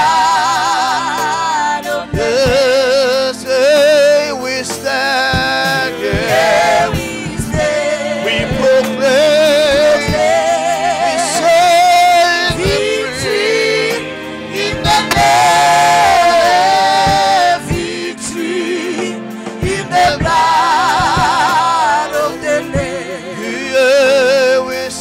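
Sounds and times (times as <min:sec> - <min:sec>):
gospel singing with vibrato: 0:00.0 - 0:25.0.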